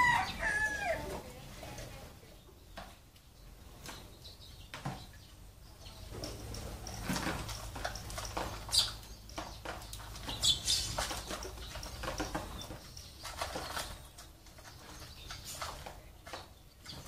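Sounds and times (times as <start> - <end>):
sparrows fluttering wings: 0.0 - 17.0.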